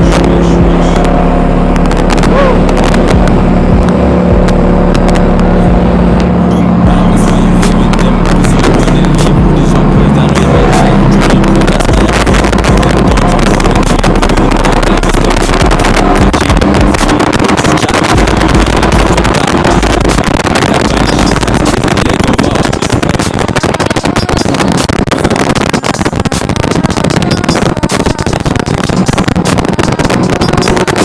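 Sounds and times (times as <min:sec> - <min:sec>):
motorcycle running at speed: 0:00.0 - 0:31.0
wind noise on microphone: 0:00.0 - 0:31.0.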